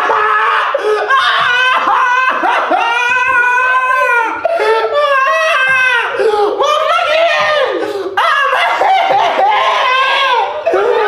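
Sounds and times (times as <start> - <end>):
woman screaming and crying: 0.0 - 11.0.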